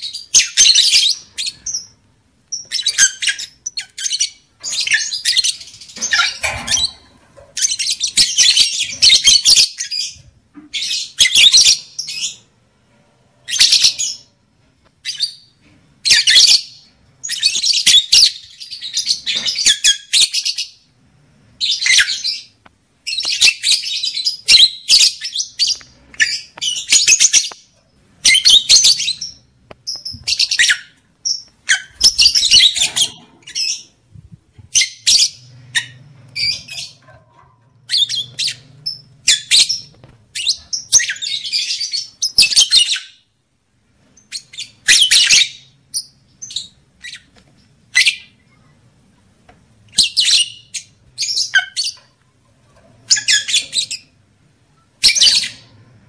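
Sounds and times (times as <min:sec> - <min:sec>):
lovebirds chattering and chirping: 0:00.0 - 0:12.5, 0:15.0 - 0:20.9, 0:21.6 - 0:43.3, 0:44.2 - 0:48.8, 0:49.9 - 0:56.0.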